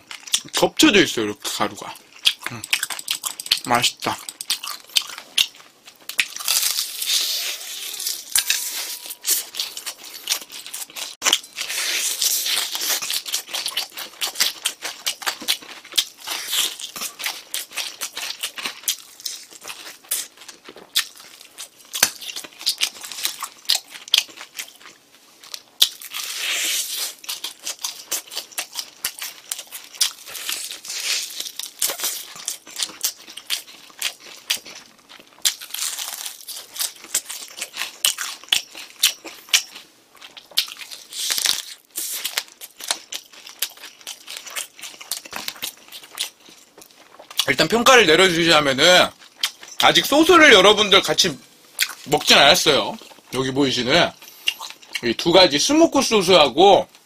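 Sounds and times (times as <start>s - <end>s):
crunchy chewing: 1.6s - 47.8s, 48.5s - 50.2s, 54.1s - 55.1s.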